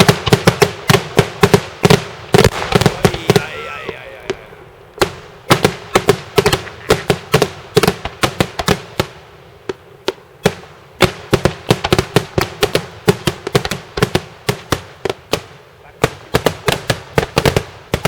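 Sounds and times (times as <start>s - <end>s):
fireworks banging: 0.0s - 18.0s.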